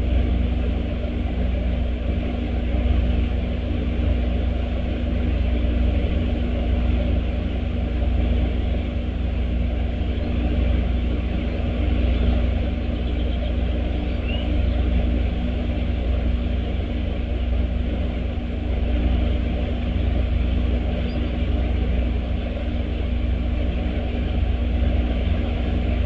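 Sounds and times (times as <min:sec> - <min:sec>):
faint steady hum: 0:00.0 - 0:26.0
low outdoor rumble: 0:00.0 - 0:26.0.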